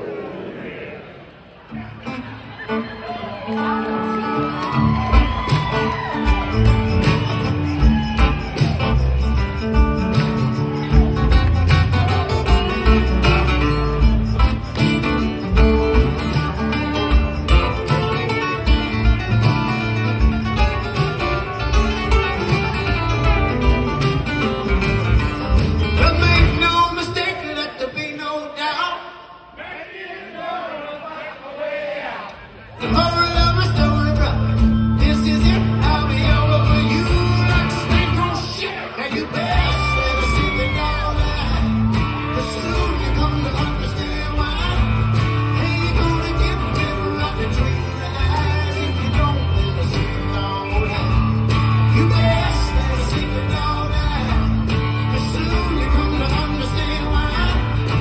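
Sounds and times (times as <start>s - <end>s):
acoustic guitars playing: 1.7s - 27.4s, 32.6s - 58.0s.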